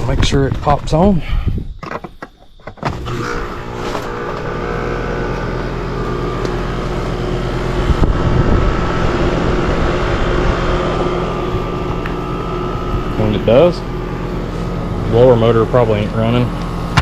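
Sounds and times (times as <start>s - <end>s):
heat pump humming: 2.9s - 17.0s
louder rumble: 3.0s - 17.0s.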